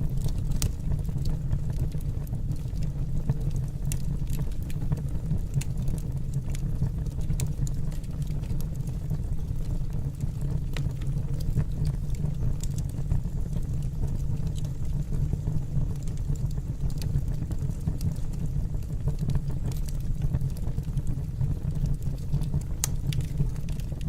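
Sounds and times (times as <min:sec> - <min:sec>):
fire crackling and popping: 0:00.0 - 0:24.0
low rumble of fire: 0:00.0 - 0:24.0.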